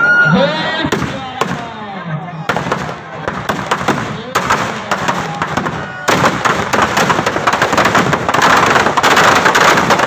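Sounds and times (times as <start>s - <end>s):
firecrackers crackling and banging: 0.8s - 10.0s.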